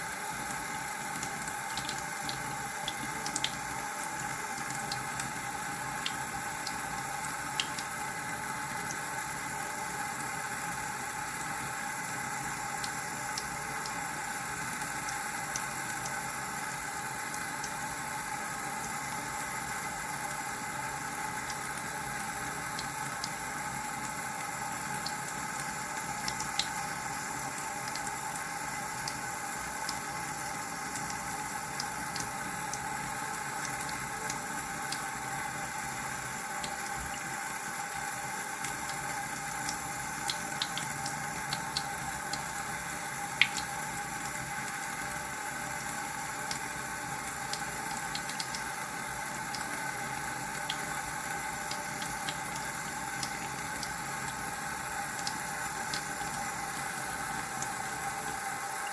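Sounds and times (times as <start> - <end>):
water running: 0.0 - 58.9.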